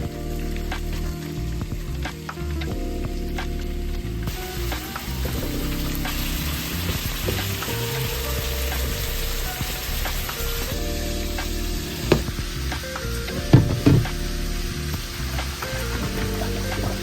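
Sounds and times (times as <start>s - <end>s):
background music with held notes: 0.0s - 17.0s.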